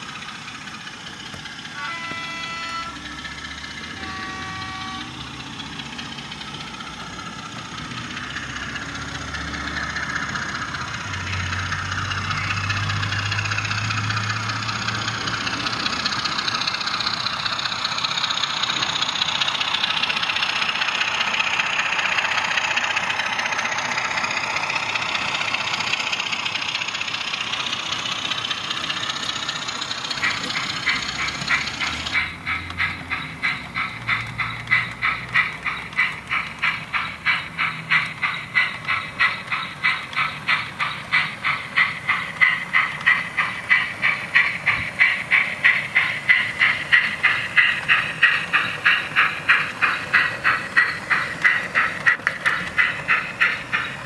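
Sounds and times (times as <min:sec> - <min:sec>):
model locomotive engine: 0:00.0 - 0:54.0.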